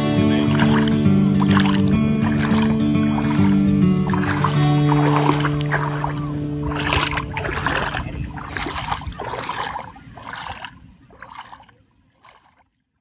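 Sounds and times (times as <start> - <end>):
feet splashing in pool water: 0.0 - 12.8.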